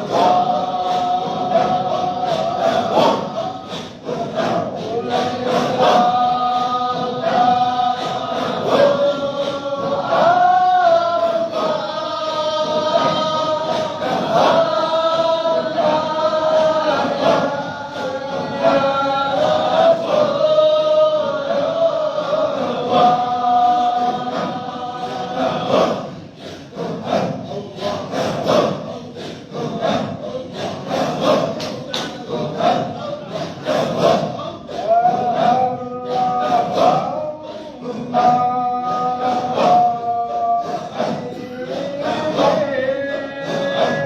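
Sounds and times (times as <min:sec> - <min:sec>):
men chanting in unison: 0:00.0 - 0:44.0.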